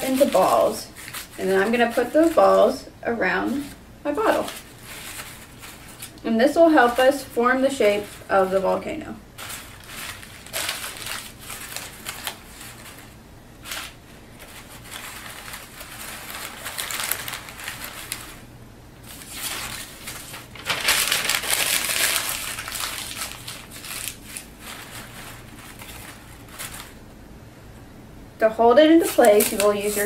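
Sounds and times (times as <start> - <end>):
newspaper crumpling: 0.0 - 2.8, 3.4 - 27.0, 29.0 - 30.0.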